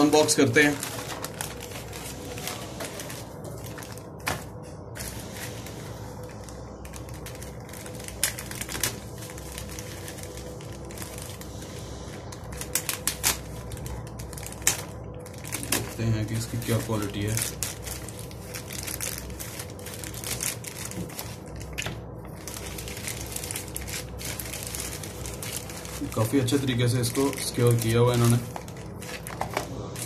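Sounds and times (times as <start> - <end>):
plastic and paper wrapping rustling: 0.0 - 30.0.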